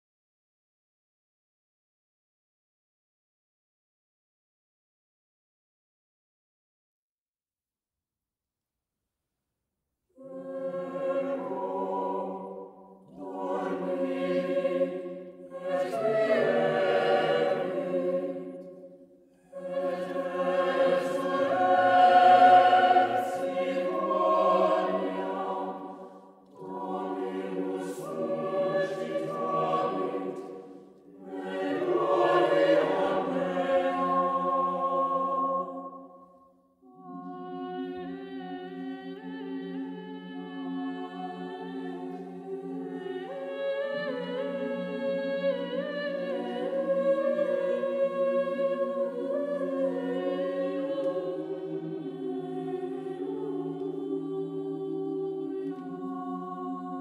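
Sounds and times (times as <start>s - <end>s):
mixed choir singing plainchant: 10.2s - 36.1s, 36.9s - 57.0s.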